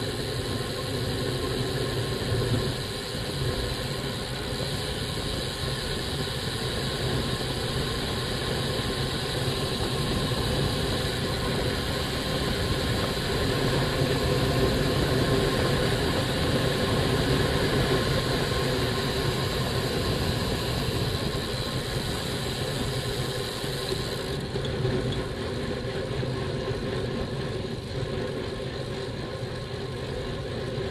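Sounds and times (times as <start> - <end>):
bike tyre noise on road: 0.0 - 30.9.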